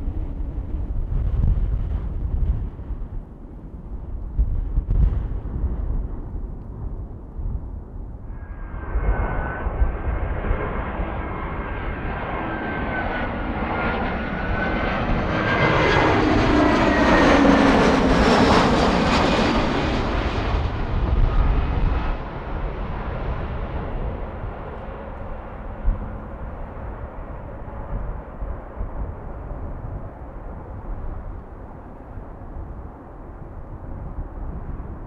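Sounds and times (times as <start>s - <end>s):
jet airliner flying past: 0.0s - 35.0s.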